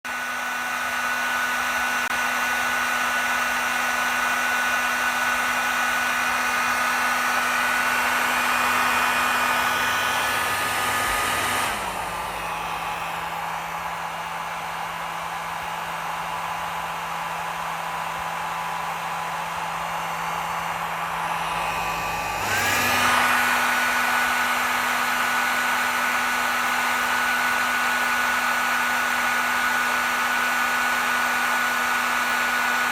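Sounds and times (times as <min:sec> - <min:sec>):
hair dryer blowing: 0:00.0 - 0:32.9.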